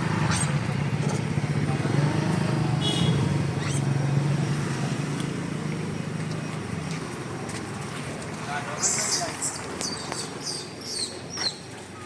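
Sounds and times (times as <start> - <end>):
street noise: 0.0 - 12.0
vehicle engine humming: 0.0 - 12.0.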